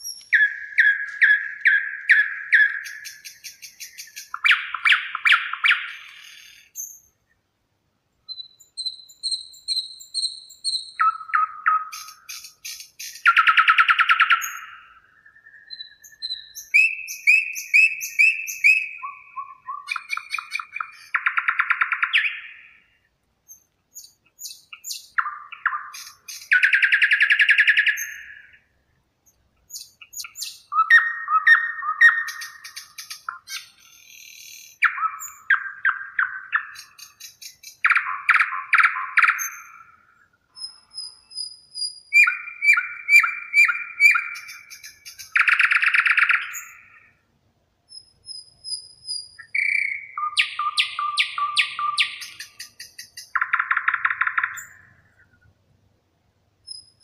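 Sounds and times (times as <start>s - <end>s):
songbirds singing: 0.0s - 7.5s, 8.1s - 57.0s.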